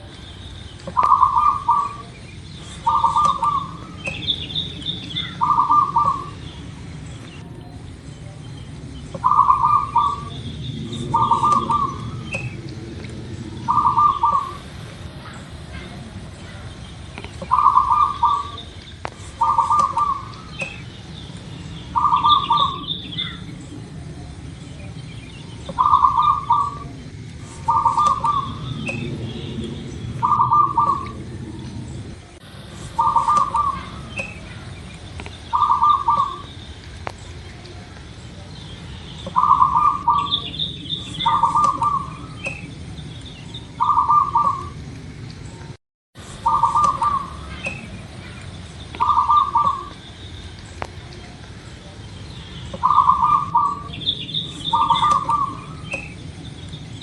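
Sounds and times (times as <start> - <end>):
low steady hum: 0.0 - 57.0
small birds chirping: 0.0 - 57.0
dove cooing: 0.8 - 6.8, 9.0 - 25.0, 25.6 - 36.6, 39.2 - 44.9, 46.3 - 50.0, 52.7 - 57.0.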